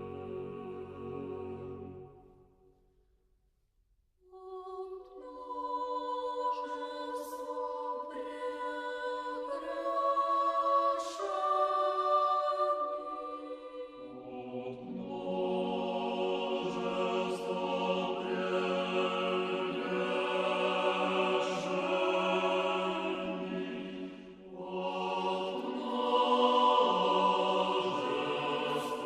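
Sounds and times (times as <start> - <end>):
choir singing a slow chant: 0.0 - 2.4, 4.3 - 29.0.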